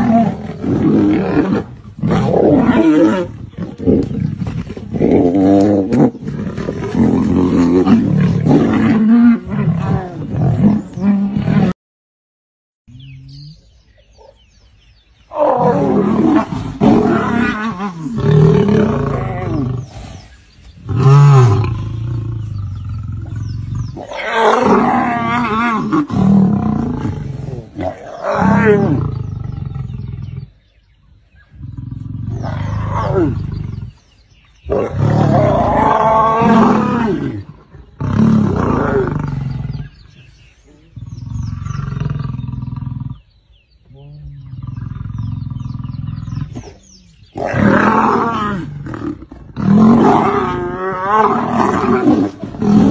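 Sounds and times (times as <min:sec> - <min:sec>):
lions growling and snarling: 0:00.0 - 0:11.8, 0:15.3 - 0:52.9.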